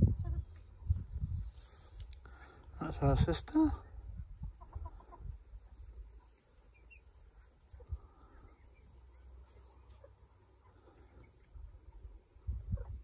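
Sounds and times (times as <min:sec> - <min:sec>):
chickens clucking: 0:00.0 - 0:02.7, 0:04.1 - 0:13.0.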